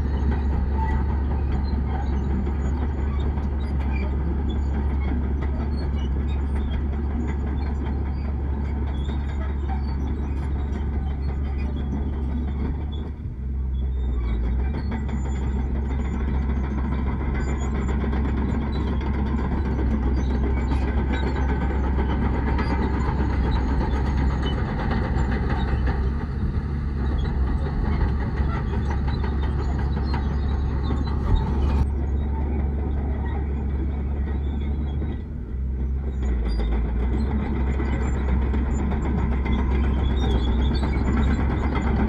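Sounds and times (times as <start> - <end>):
heavy diesel machinery rumbling: 0.0 - 42.0.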